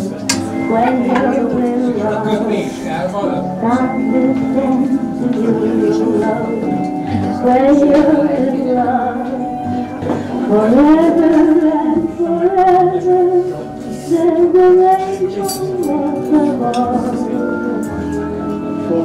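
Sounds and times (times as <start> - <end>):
woman singing with orchestra: 0.6 - 2.6, 3.6 - 18.1, 18.8 - 19.0.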